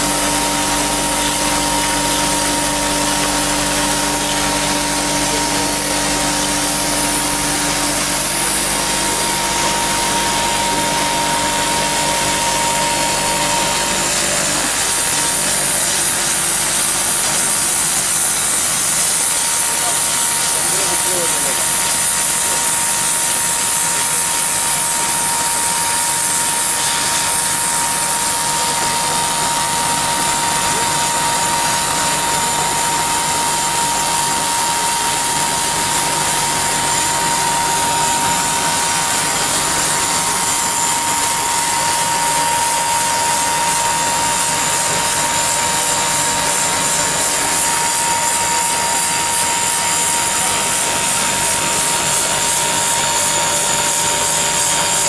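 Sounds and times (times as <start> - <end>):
high machine whine: 0.0 - 55.0
printing machine running: 0.0 - 55.0.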